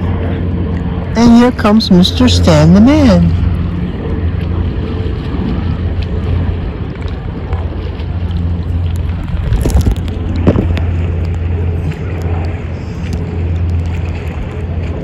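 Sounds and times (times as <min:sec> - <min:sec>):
sea water sloshing: 0:00.0 - 0:15.0
wind rumble on microphone: 0:00.0 - 0:15.0.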